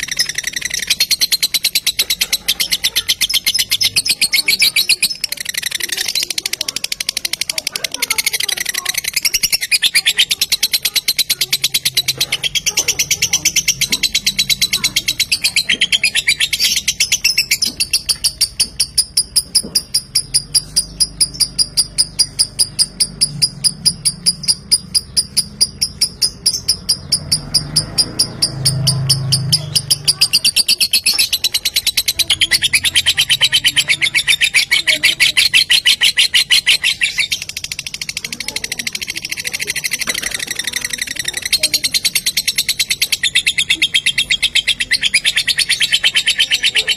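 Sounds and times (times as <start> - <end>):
lovebird chattering song: 0.0 - 46.9.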